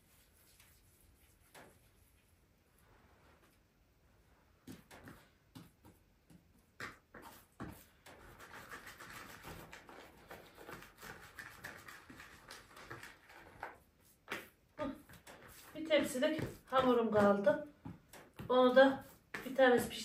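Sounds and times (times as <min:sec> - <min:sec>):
hands kneading dough: 0:00.0 - 0:20.0.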